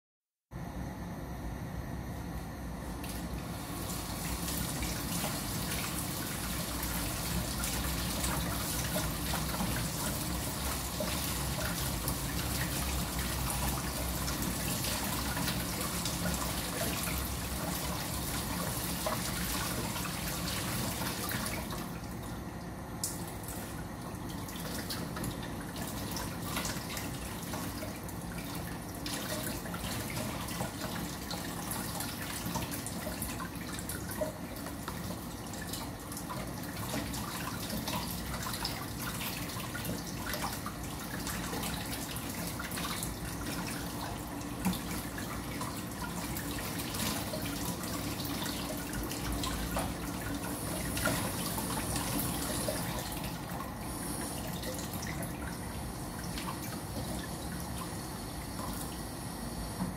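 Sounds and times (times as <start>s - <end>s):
tap water running and splashing: 2.9s - 59.9s.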